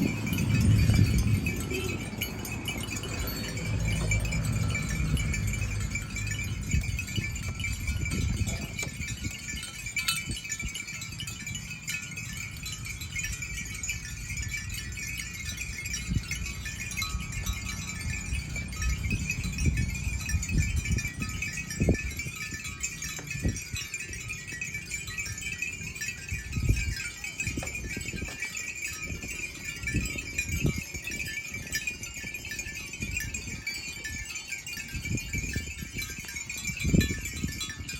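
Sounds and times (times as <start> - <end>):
cow bells jingling and clanking: 0.0 - 37.9.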